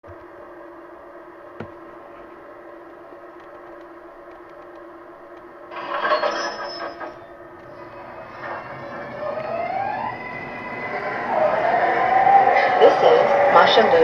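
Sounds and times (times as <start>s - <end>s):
electrical hum with held tones: 0.0s - 14.0s.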